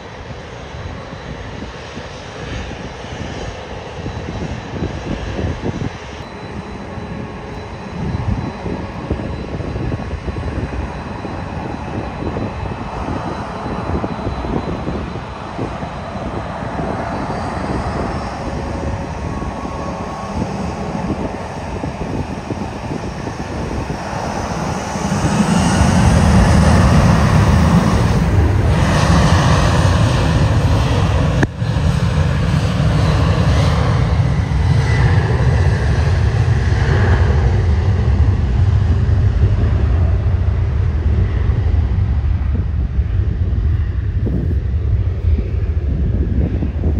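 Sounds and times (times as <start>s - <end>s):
jet engines rumbling at takeoff: 0.0s - 46.9s
jet engines whining: 0.0s - 46.9s.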